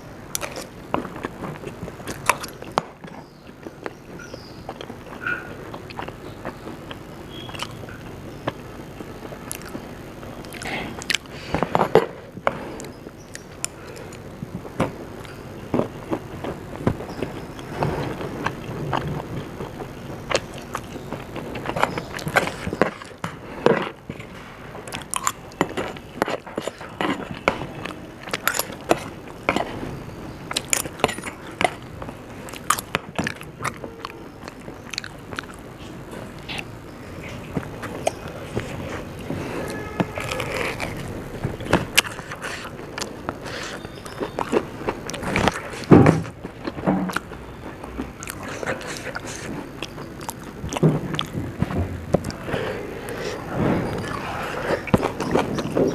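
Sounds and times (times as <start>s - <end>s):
person chewing and crunching: 0.0s - 55.9s.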